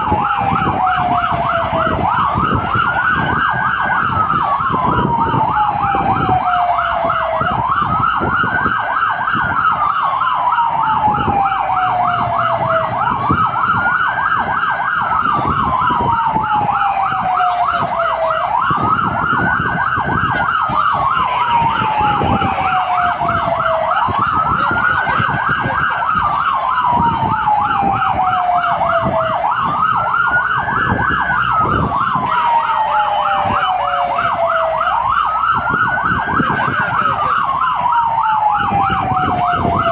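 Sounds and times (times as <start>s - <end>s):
engine and road noise: 0.0s - 39.9s
siren fast warbling tone: 0.0s - 39.9s
siren slow wail: 0.0s - 39.9s.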